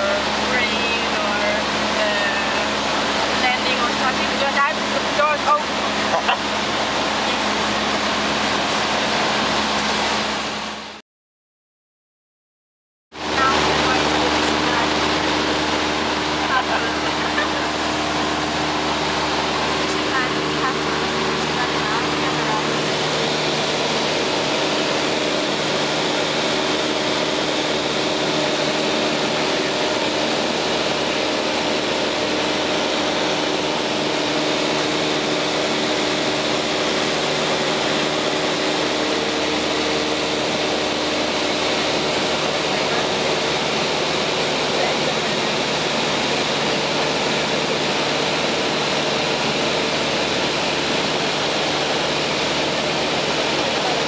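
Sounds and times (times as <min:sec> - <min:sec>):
airplane engine and propeller drone: 0:00.0 - 0:11.0, 0:13.1 - 0:54.0.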